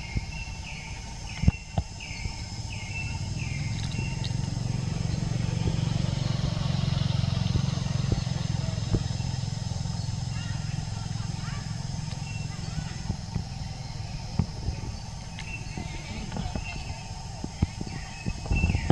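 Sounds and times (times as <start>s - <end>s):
motorbike engine humming: 0.0s - 18.9s.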